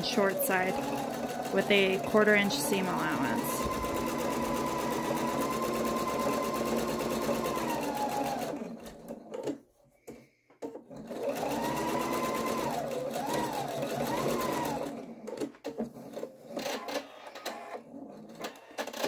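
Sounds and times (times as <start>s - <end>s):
sewing machine stitching: 0.0s - 19.0s.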